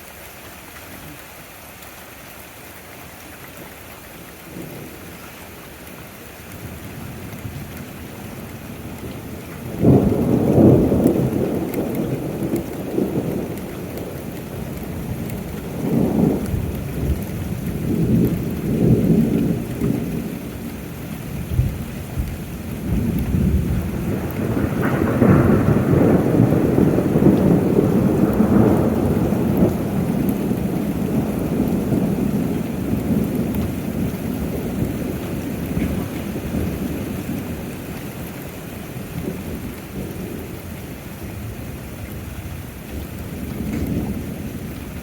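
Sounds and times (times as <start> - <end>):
steady rain: 0.0 - 45.0
thunder clap and rumbles: 6.5 - 45.0.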